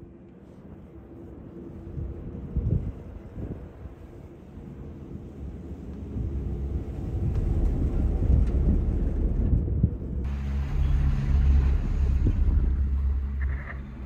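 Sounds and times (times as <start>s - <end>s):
wind buffeting microphone: 0.9s - 14.0s.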